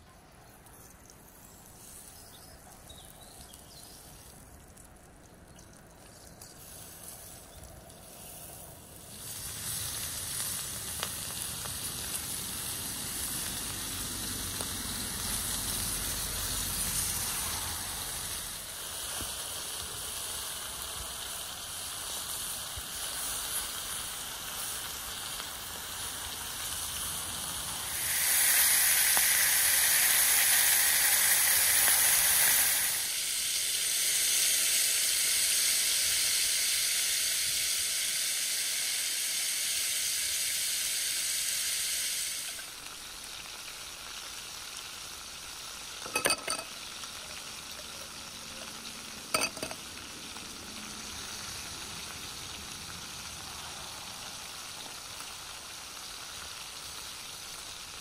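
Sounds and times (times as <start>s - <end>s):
skewers sizzling in grill pan: 0.7s - 58.0s.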